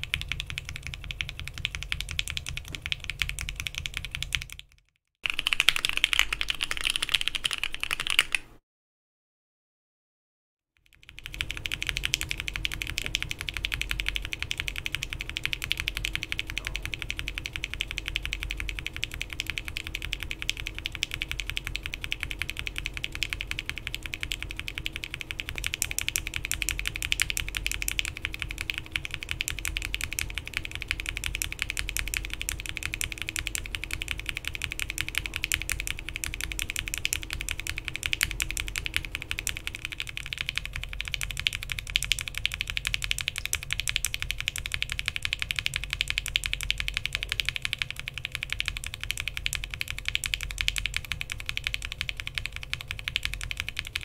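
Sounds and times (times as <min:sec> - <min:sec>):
fast typing on mechanical keyboard: 0:00.0 - 0:08.6, 0:10.8 - 0:54.0.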